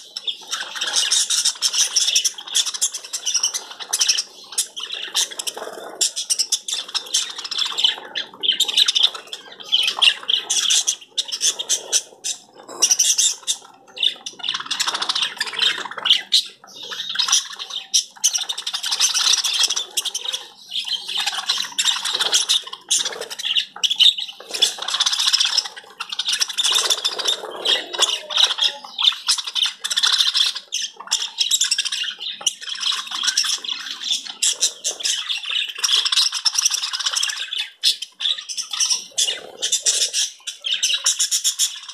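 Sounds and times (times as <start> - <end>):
small birds chattering: 0.0 - 41.9.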